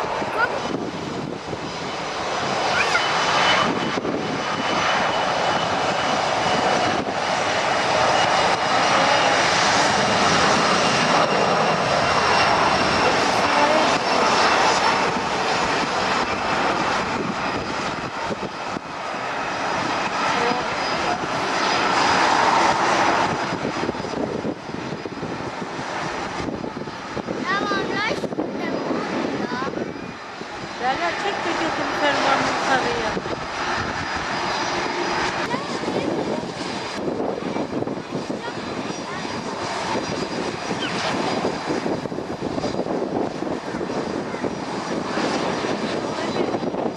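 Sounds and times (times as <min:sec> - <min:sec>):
airliner engines roaring: 0:00.0 - 0:46.9.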